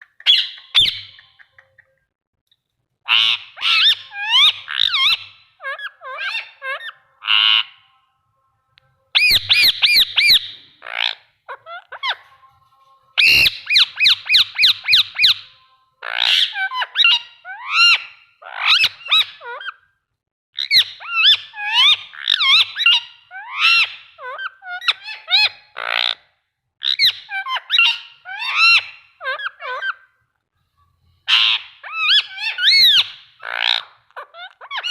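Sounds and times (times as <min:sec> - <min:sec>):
parakeet calling and chattering: 0:00.0 - 0:02.1, 0:03.0 - 0:08.1, 0:09.1 - 0:19.9, 0:20.6 - 0:30.2, 0:31.2 - 0:34.9.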